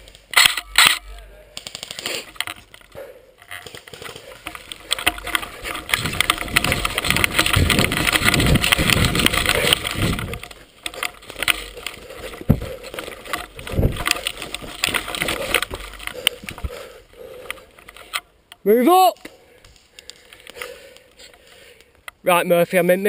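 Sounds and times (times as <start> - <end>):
rustling crackling movement: 0.0 - 18.5.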